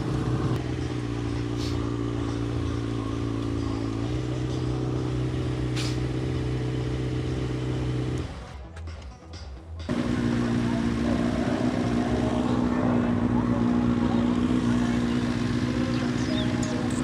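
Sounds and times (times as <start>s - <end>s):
vehicle engine running: 0.0s - 9.0s, 9.8s - 17.0s.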